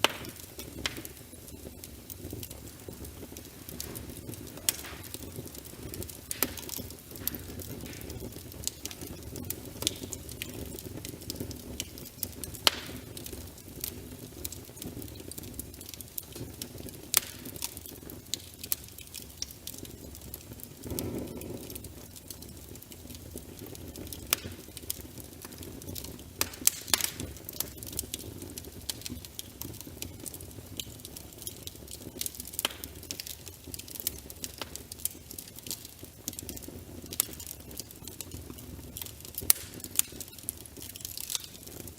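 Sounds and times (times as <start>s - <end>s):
fire crackling: 0.0s - 41.9s
sharp pops and snaps: 0.0s - 41.9s.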